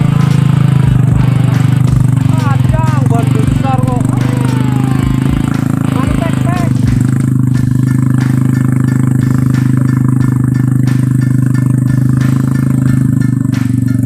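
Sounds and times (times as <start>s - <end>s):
motorcycle engine labouring: 0.0s - 14.0s
motorcycle rattling: 0.0s - 14.0s.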